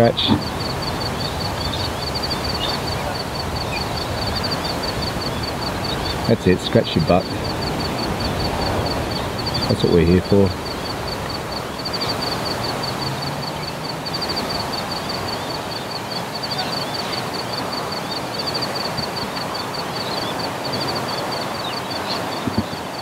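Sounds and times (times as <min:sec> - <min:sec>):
high-pitched pulsing chirping: 0:00.0 - 0:23.0
steady background rush: 0:00.0 - 0:23.0.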